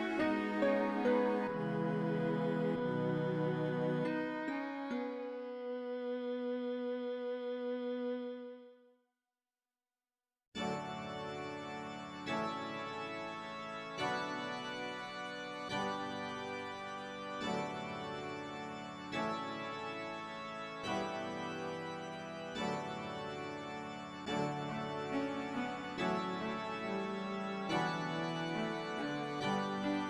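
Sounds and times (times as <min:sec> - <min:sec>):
organ-like keyboard chords: 0:00.0 - 0:08.4, 0:10.6 - 0:30.0.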